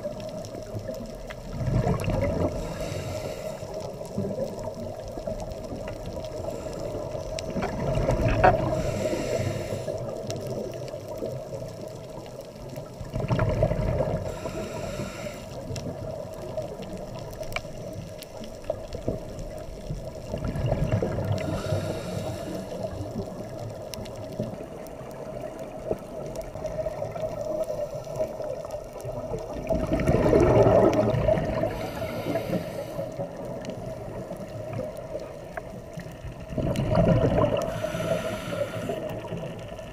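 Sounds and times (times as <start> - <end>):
exhaled bubbles underwater: 0.0 - 39.9
steady underwater hum: 0.0 - 39.9.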